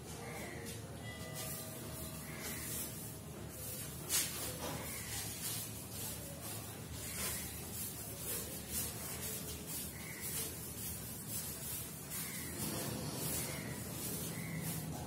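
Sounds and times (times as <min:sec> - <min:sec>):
duster wiping blackboard: 0:01.4 - 0:15.0.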